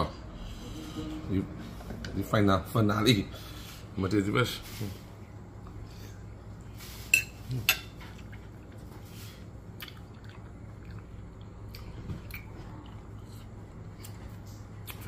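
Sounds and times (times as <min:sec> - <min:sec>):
faint eating sounds: 0:00.0 - 0:15.0
steady low hum: 0:00.0 - 0:15.0.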